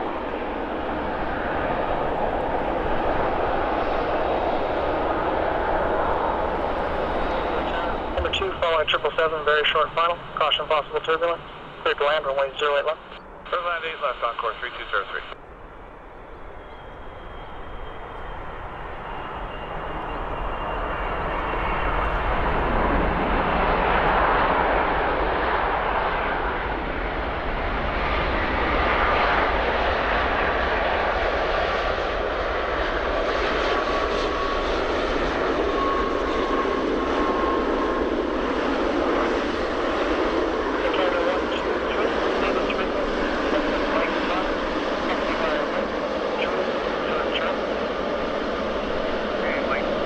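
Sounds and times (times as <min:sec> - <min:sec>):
faint engine whine: 0:00.0 - 0:50.0
jet engine rush: 0:00.0 - 0:50.0.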